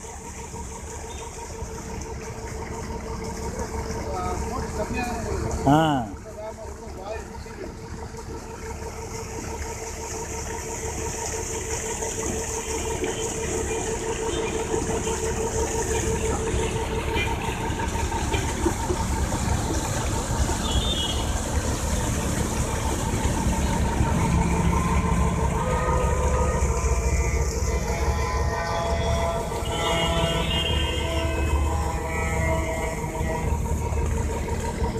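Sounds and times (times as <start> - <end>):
tractor engine drone with whine: 0.0 - 34.9
water gushing from hose: 0.0 - 34.9.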